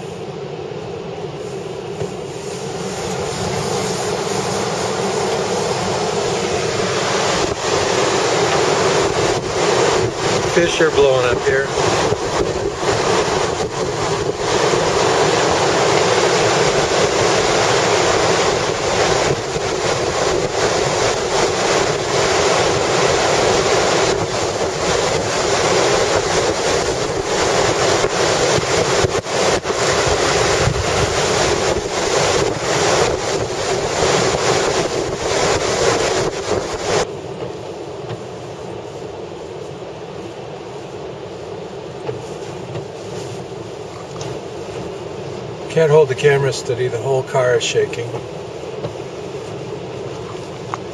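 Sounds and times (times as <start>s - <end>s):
storm wind buffeting microphone: 2.0s - 47.0s.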